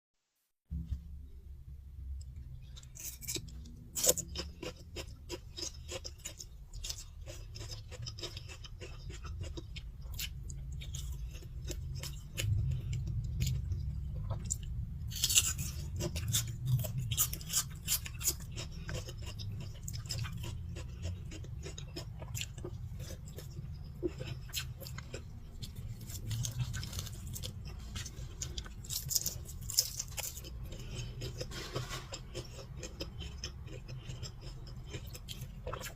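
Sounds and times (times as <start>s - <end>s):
chewing food: 2.3s - 35.9s.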